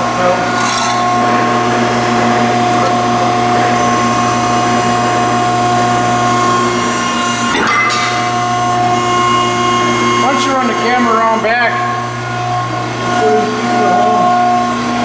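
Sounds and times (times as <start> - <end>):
band saw cutting steel: 0.0 - 15.0.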